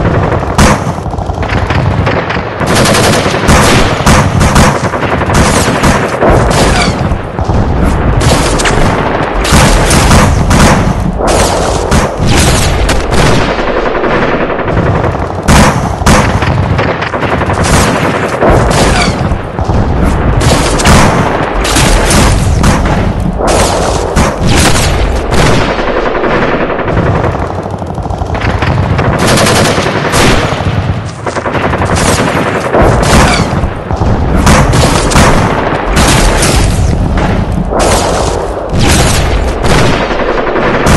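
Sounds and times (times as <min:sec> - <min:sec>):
rifle and machine-gun fire: 0:00.0 - 0:40.9.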